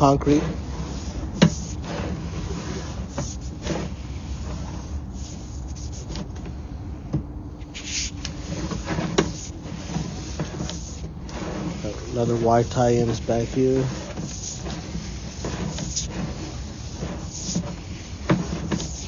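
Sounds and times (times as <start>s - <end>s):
short rubbing sounds: 0.0s - 6.3s, 7.6s - 19.0s.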